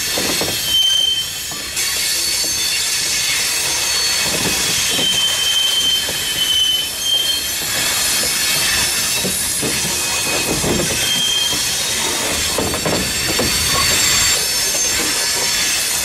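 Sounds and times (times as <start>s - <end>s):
rumble and clack of train cars: 0.0s - 16.0s
train wheels squealing on rails: 0.0s - 16.0s.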